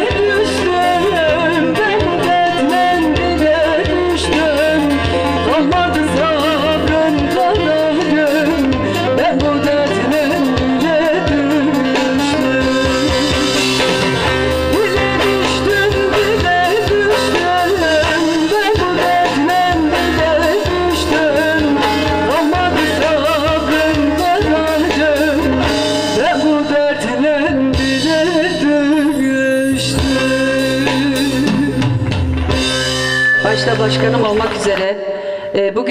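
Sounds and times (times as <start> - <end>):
steady drum beat: 0.0 - 26.6, 29.8 - 34.9
person singing: 0.0 - 32.8, 33.4 - 35.9
amplified folk instruments: 0.0 - 35.9.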